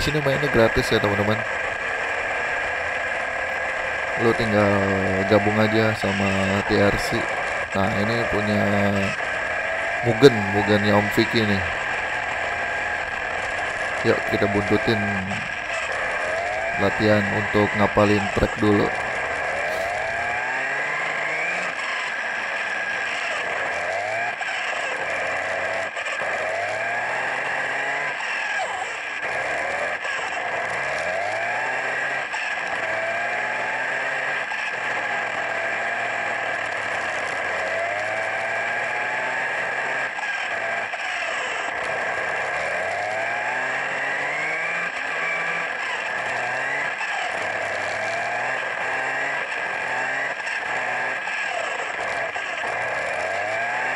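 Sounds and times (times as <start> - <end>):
electric motor whine: 0.0 - 53.9.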